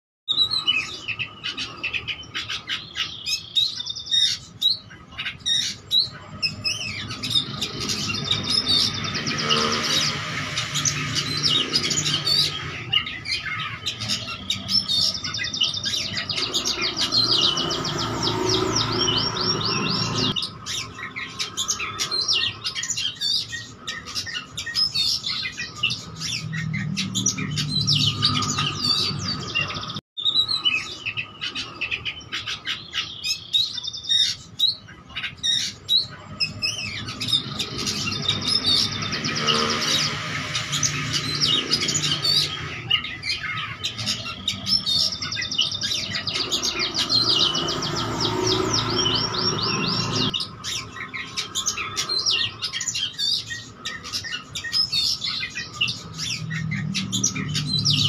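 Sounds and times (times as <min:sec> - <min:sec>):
magpie-robin singing: 0:00.3 - 0:58.0.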